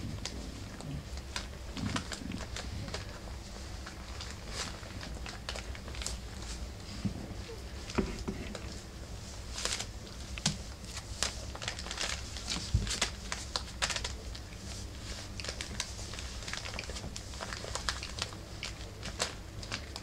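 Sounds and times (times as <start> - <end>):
newspaper crinkling under puppy paws: 0.0 - 20.0.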